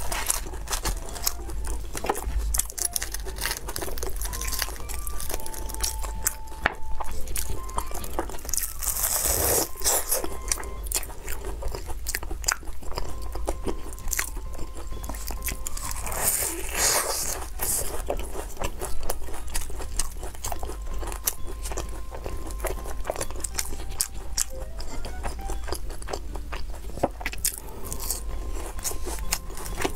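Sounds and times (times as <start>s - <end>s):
chewing crispy potato cakes: 0.0s - 29.9s.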